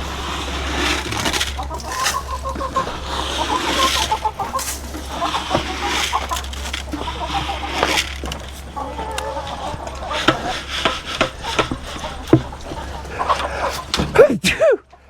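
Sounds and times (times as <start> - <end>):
rustling and scratching: 0.0 - 14.4
chickens clucking: 0.0 - 15.0.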